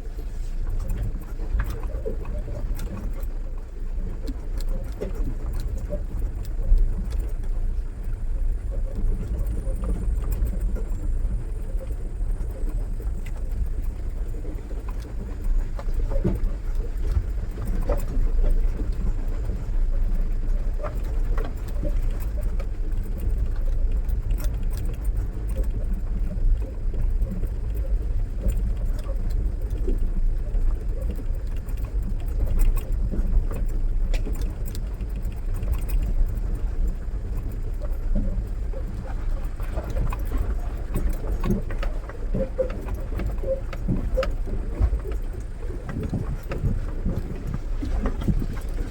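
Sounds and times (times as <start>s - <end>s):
engine and road rumble: 0.0s - 48.9s.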